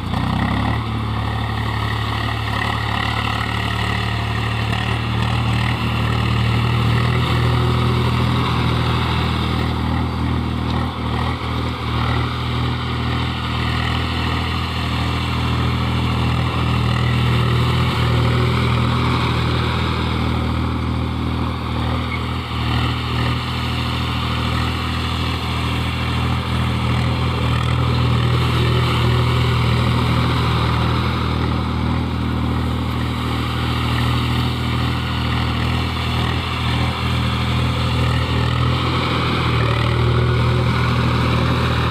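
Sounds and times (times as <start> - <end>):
farm machine engine running: 0.0 - 41.9.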